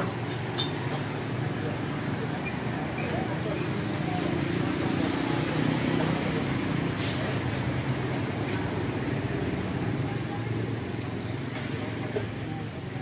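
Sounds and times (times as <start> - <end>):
motorbike engines: 0.0 - 13.0
vehicles through shallow water: 0.0 - 13.0.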